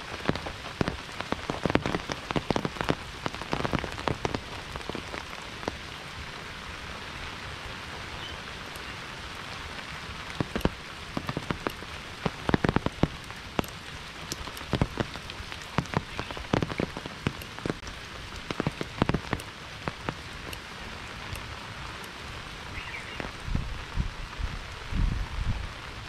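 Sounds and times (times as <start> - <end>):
rain hissing: 0.0 - 26.0
raindrops tapping on surface: 0.0 - 26.0.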